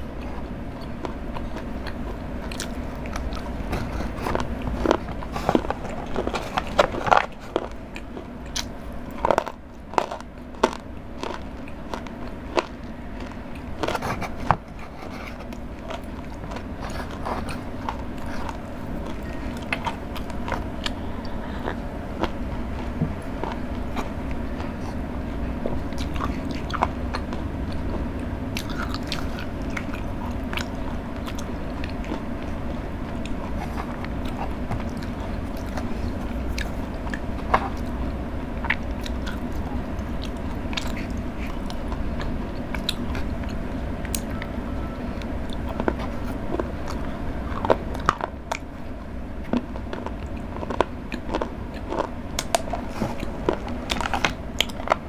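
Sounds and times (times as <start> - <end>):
chewing chocolate: 0.0 - 55.0
low hum: 0.0 - 55.0.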